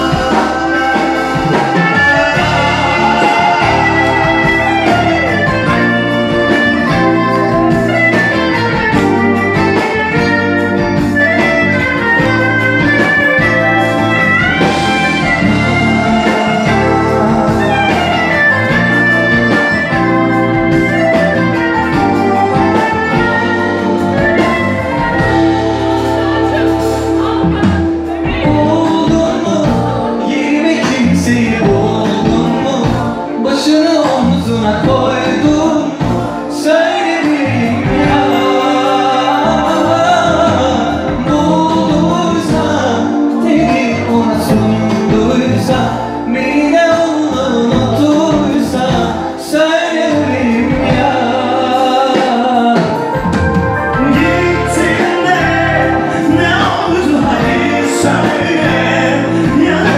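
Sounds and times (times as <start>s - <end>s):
men singing: 0.0s - 10.4s, 11.2s - 59.9s
live band with electric guitar: 0.0s - 59.9s.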